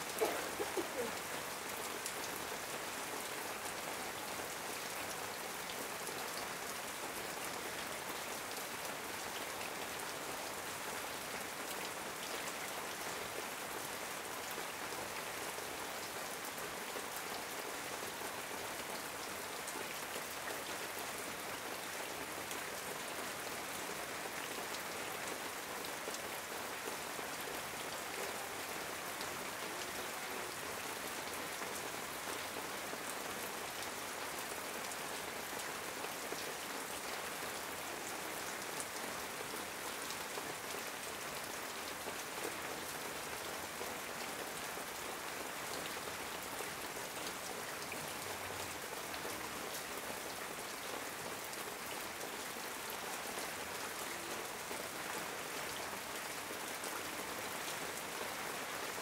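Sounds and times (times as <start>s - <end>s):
heavy rain on metal roof: 0.0s - 59.0s.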